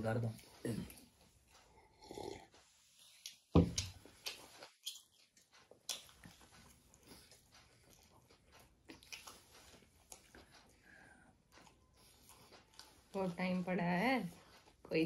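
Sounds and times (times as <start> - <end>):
person chewing: 0.6 - 13.2.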